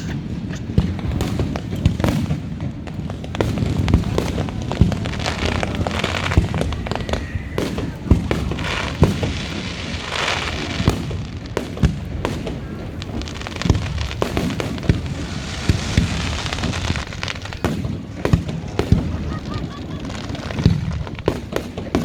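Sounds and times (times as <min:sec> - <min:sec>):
fireworks bangs and booms: 0:00.0 - 0:22.0
fireworks crackling: 0:00.0 - 0:22.0.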